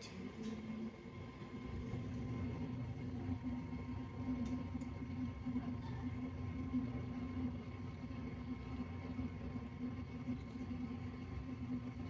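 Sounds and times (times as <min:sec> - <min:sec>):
heater humming: 0:00.0 - 0:12.0.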